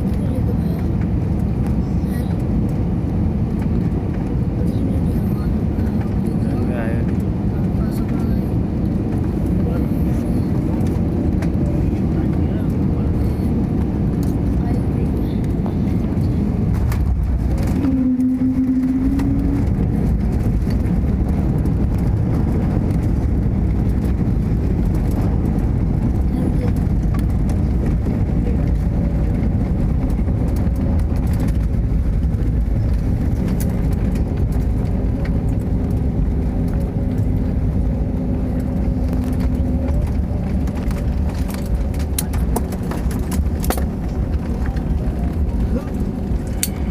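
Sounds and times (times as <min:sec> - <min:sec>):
airliner engine rumble: 0:00.0 - 0:46.9.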